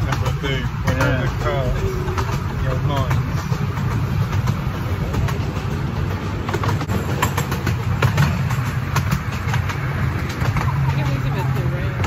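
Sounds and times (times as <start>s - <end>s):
miniature train rumbling: 0.0s - 12.0s
wheels clicking and rattling: 0.0s - 12.0s.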